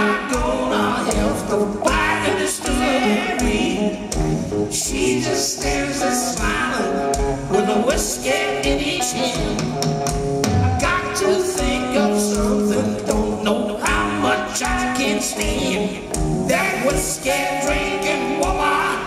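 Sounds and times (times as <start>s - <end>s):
man singing: 0.0s - 9.8s, 10.6s - 19.0s
drums: 0.0s - 19.0s
electric guitar: 0.0s - 19.0s
live rock band: 0.0s - 19.0s.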